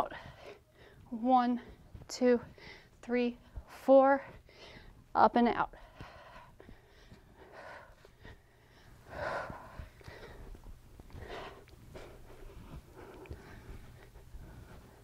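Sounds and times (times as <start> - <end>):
woman breathing heavily: 0.0 - 15.0.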